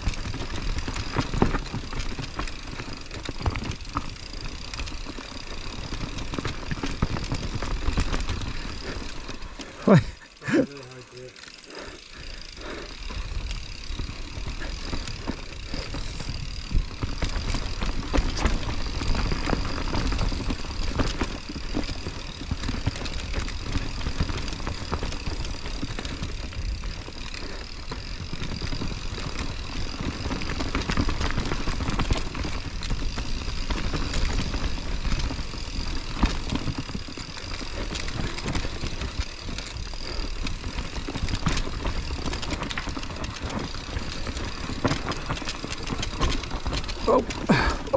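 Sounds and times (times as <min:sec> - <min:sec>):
bike knocking and rattling: 0:00.0 - 0:47.9
tyres rumbling on dirt: 0:00.0 - 0:47.9.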